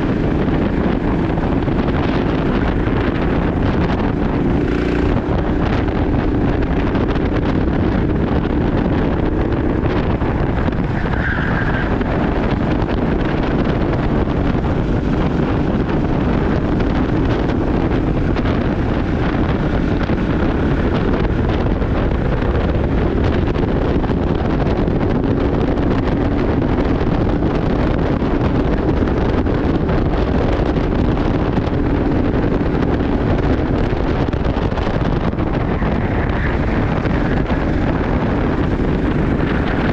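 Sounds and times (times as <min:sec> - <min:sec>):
low rumble: 0:00.0 - 0:39.9
wind on microphone: 0:00.0 - 0:39.9.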